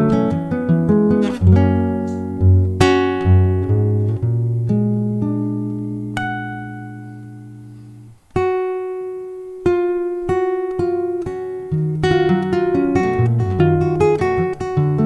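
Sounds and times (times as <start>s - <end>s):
classical guitar playing: 0.0s - 15.0s.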